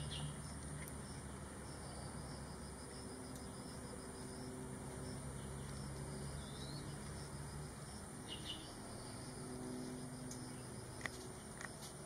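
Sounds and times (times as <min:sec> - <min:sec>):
pulsing chirping insect trill: 0:00.0 - 0:12.0.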